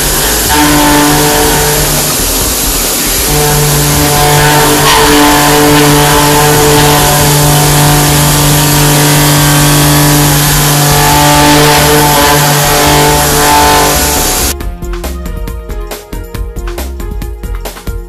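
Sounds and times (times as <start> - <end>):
constant high hiss: 0.0 - 14.6
milling machine humming: 0.0 - 14.6.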